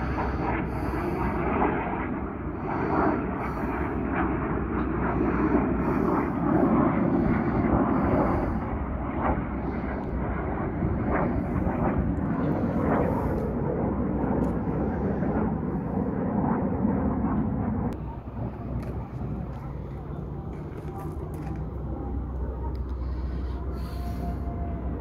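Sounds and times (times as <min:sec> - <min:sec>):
jets flying overhead: 0:00.0 - 0:25.0.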